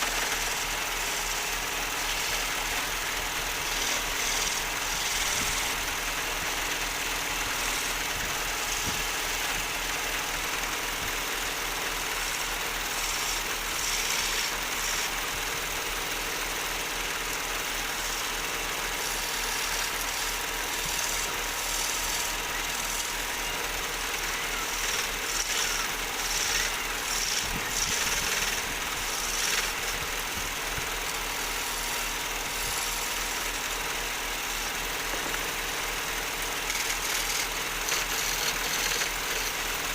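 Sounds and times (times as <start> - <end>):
turning tool scraping wood: 0.0 - 9.6, 11.8 - 33.6, 34.5 - 39.9
wood lathe running: 0.0 - 39.9.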